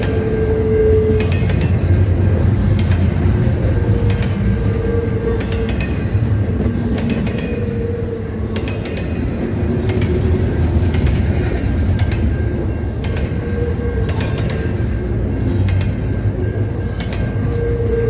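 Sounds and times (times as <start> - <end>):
train rumble: 0.0 - 18.0
wheels clicking over rail joints: 0.0 - 18.0.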